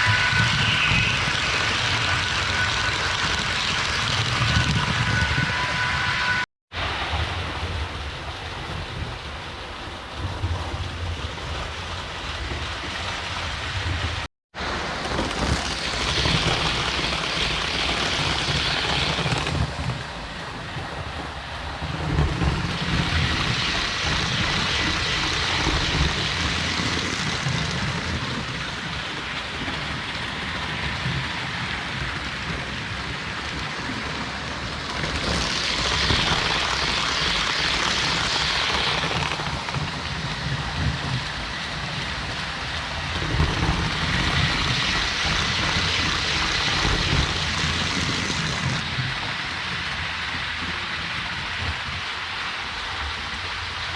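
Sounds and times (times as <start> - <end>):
model train wheels rumbling: 0.0 - 53.9.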